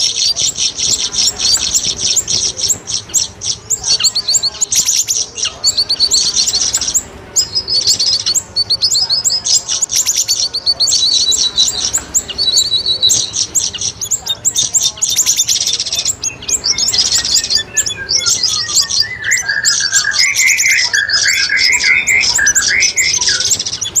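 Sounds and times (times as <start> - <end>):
falling whistled notes and warbling: 0.0 - 24.0
rapid high bird chirps and trills: 0.0 - 24.0.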